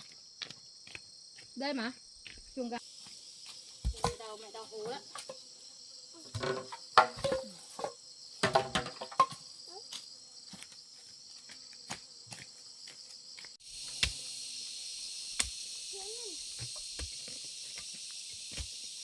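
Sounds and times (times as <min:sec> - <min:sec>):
insect chorus chirring: 0:00.0 - 0:19.0.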